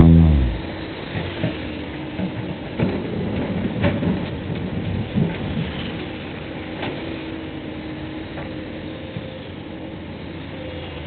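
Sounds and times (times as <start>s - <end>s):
excavator engine rumble: 0.0s - 11.0s.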